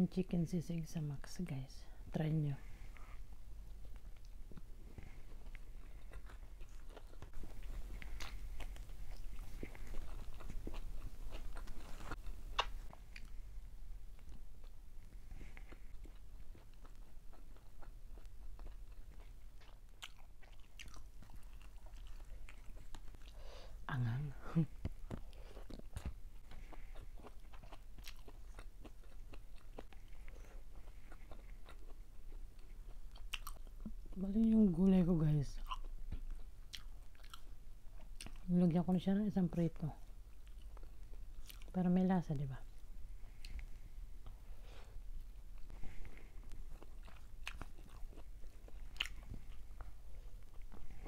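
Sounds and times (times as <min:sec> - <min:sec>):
person chewing and biting food: 0:02.9 - 0:13.5, 0:14.1 - 0:23.4, 0:24.8 - 0:34.2, 0:35.6 - 0:38.5, 0:40.3 - 0:41.7, 0:42.7 - 0:51.0.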